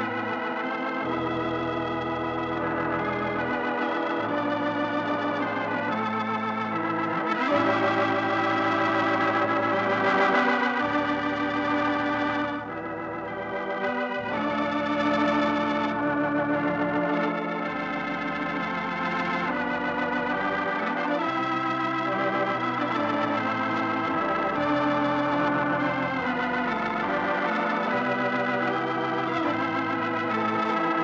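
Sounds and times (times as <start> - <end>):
organ playing sustained chords: 0.0 - 31.0.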